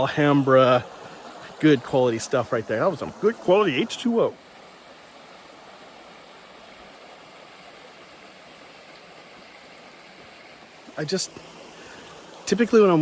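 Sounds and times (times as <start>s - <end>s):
stream flowing over small fall: 0.0s - 13.0s.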